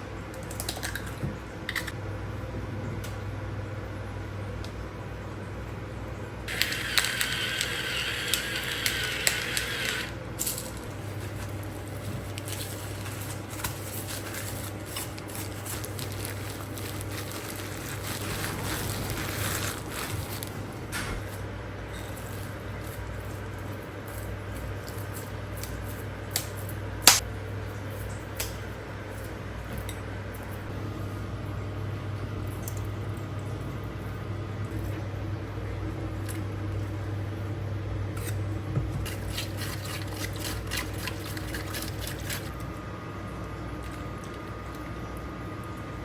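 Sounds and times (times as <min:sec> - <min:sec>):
steady low hum: 0:07.9 - 0:46.0.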